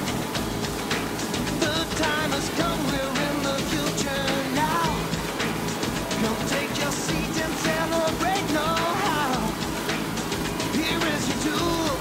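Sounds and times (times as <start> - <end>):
song with drum beat: 0.0 - 12.0.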